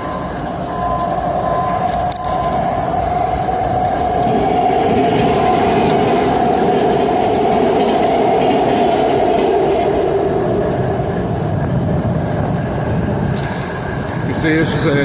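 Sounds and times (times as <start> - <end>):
locomotives idling: 0.0 - 15.0
steady whine: 0.0 - 15.0.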